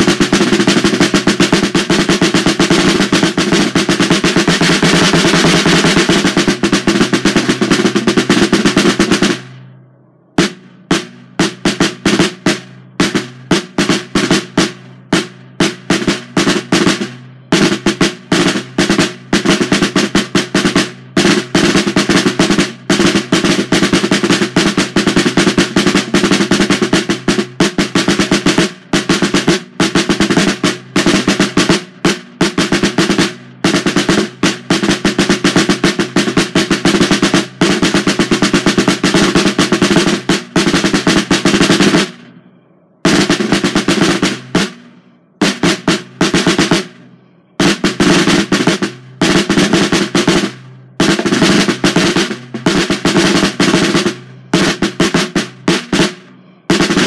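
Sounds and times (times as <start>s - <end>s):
drum rolls with drumsticks: 0.0s - 9.6s, 10.4s - 42.4s, 43.0s - 57.0s.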